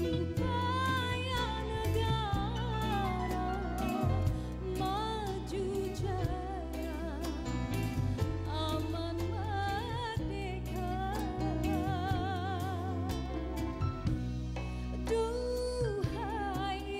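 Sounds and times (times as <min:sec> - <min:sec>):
woman singing into microphone: 0:00.0 - 0:07.6, 0:08.2 - 0:13.7, 0:15.0 - 0:16.9
band accompaniment: 0:00.0 - 0:16.9.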